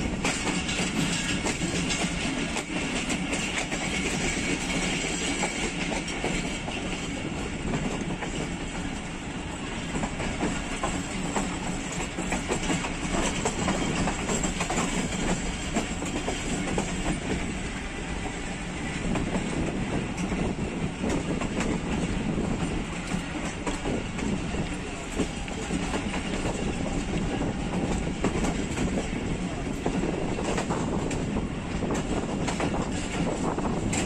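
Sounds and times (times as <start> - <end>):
clickety-clack over rail joints: 0.0 - 34.0
train wheels rumbling on rails: 0.0 - 34.0.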